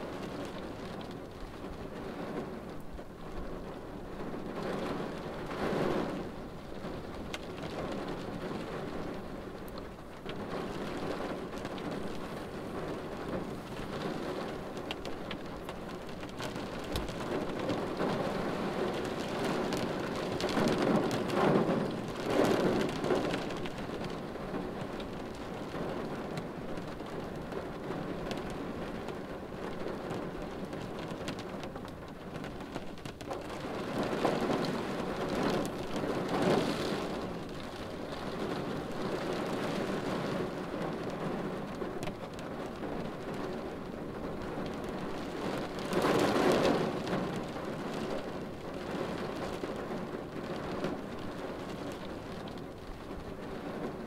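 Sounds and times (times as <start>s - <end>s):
rain on a car windshield: 0.0s - 54.0s.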